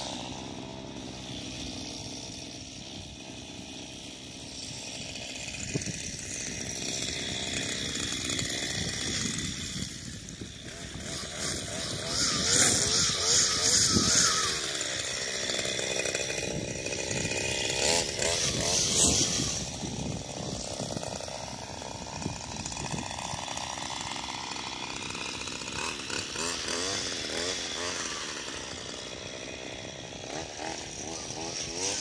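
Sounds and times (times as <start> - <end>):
string trimmer engine running: 0.0 - 32.0.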